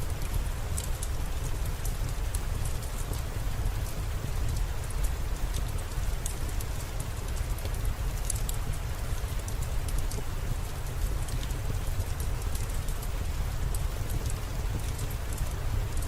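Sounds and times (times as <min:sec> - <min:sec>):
rain drops ticking: 0:00.0 - 0:16.0
steady rain falling: 0:00.0 - 0:16.0.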